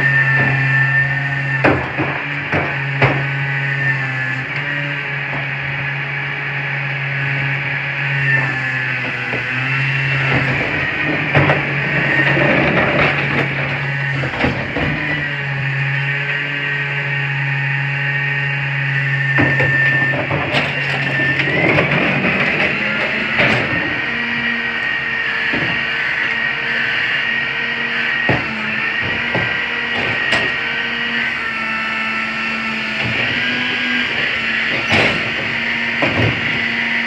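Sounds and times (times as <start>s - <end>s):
garbage truck engine and packer whine: 0.0s - 37.0s.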